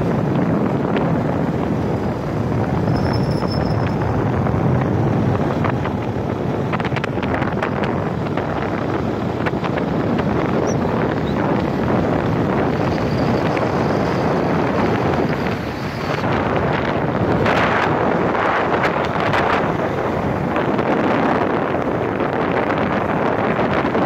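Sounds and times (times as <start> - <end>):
motorcycle engine and road noise: 0.0 - 24.0
wind rushing over microphone: 0.0 - 24.0.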